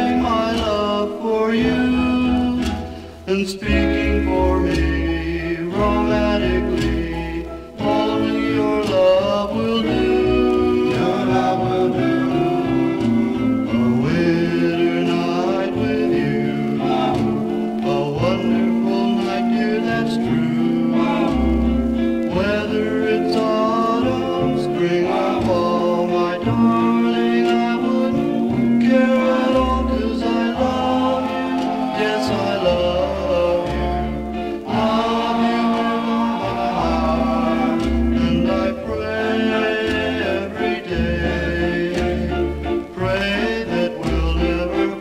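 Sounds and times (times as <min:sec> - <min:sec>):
guitar: 0:00.0 - 0:45.0
pop song with singing: 0:00.0 - 0:45.0.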